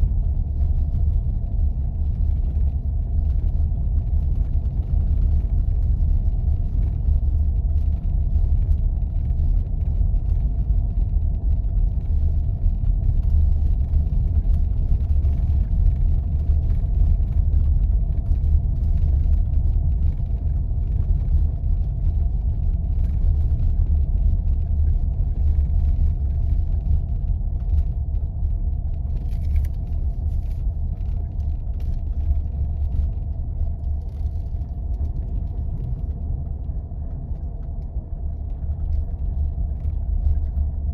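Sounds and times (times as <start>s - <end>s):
engine and tyres rumbling: 0.0s - 40.9s.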